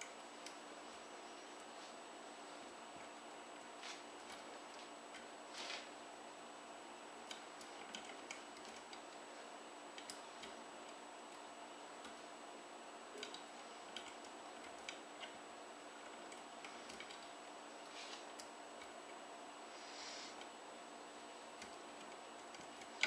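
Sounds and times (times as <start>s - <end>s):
low steady hiss: 0.0s - 23.0s.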